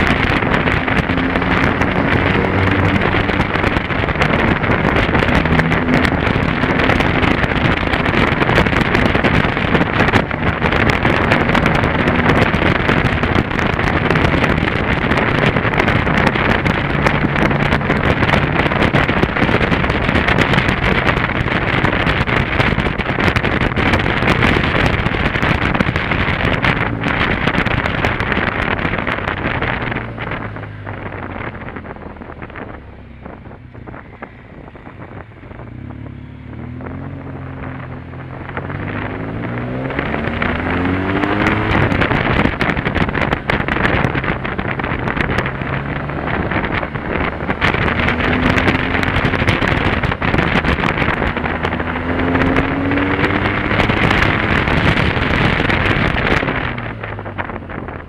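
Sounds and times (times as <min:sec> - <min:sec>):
motorcycle engine: 0:00.0 - 0:58.0
wind noise on microphone: 0:00.0 - 0:58.0.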